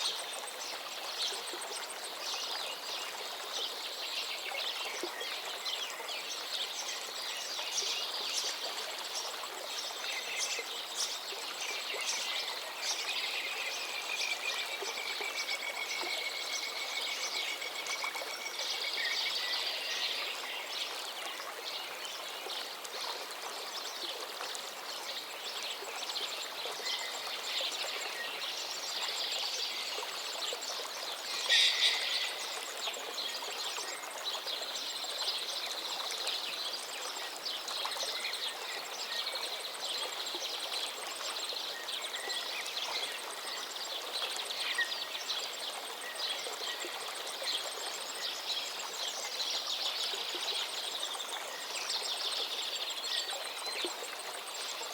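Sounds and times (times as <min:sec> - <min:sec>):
songbirds singing: 0:00.0 - 0:54.9
stream flowing: 0:00.0 - 0:54.9.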